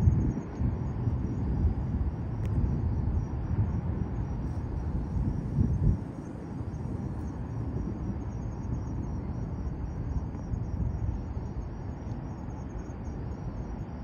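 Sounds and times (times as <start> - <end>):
crickets chirping: 0.0 - 14.0
steady low rumble: 0.0 - 14.0.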